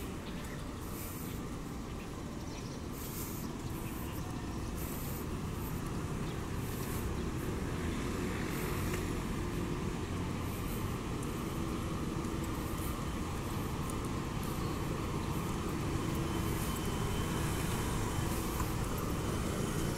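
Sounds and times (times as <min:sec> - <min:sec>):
distant road traffic rumble: 0:00.0 - 0:19.9.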